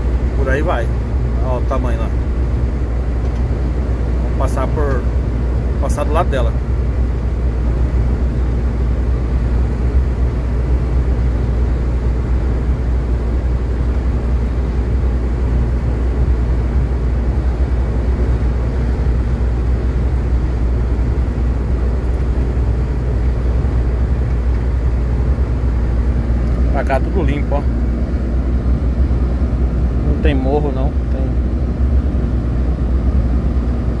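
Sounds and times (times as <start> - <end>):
vehicle driving on asphalt: 2.2 - 34.0.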